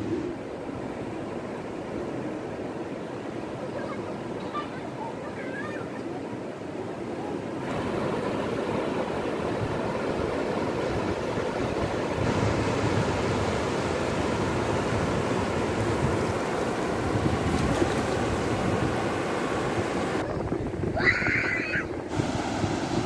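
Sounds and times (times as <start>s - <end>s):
waves washing on beach: 0.0s - 23.0s.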